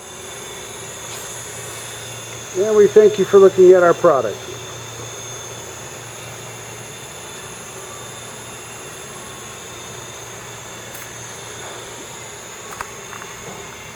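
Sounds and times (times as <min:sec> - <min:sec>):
electric machine hum with whine: 0:00.0 - 0:13.9.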